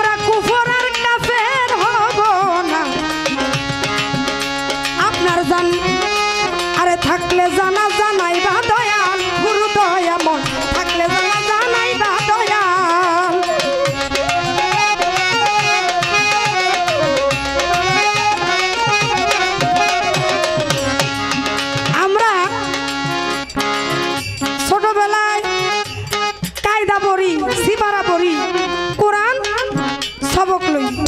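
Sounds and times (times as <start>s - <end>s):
ornamented melody line: 0.0s - 31.0s
tabla drums: 0.0s - 31.0s.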